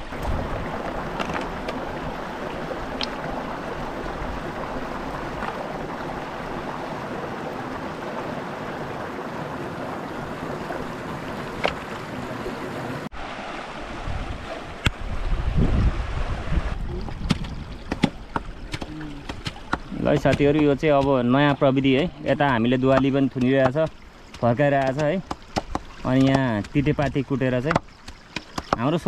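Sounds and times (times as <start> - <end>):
stream rushing over stones: 0.0 - 29.0.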